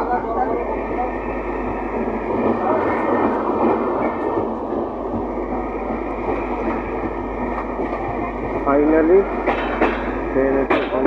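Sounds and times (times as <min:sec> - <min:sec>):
passenger train running: 0:00.0 - 0:11.0.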